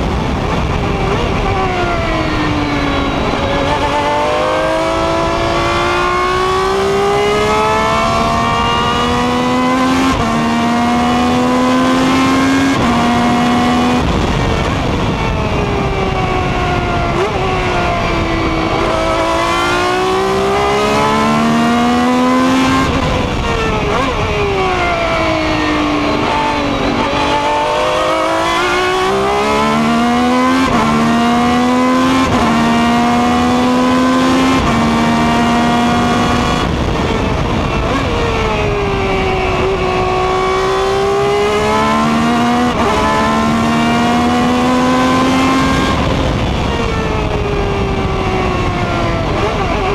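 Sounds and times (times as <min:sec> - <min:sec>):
quick gear upshifts: 0:00.0 - 0:49.9
racing engine revving: 0:00.0 - 0:49.9.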